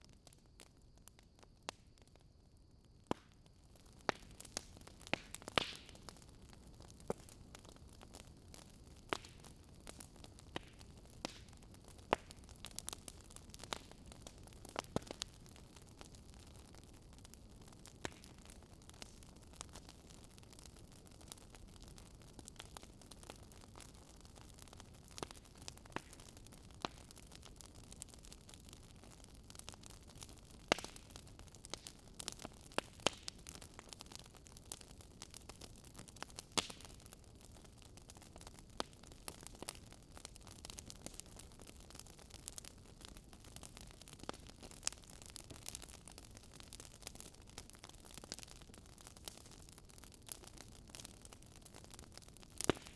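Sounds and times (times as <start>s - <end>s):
wood fire crackling and popping: 0.0s - 2.3s, 3.0s - 52.9s.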